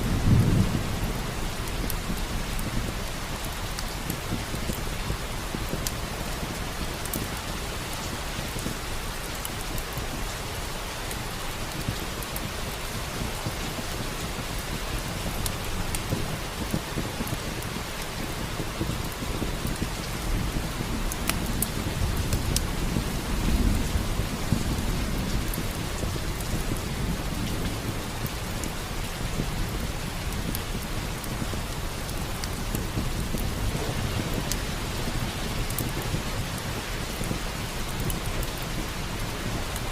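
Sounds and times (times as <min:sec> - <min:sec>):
low rumble of thunder: 0:00.0 - 0:10.5, 0:11.2 - 0:39.9
steady rain falling: 0:00.0 - 0:39.9
fireplace crackles: 0:01.0 - 0:39.9.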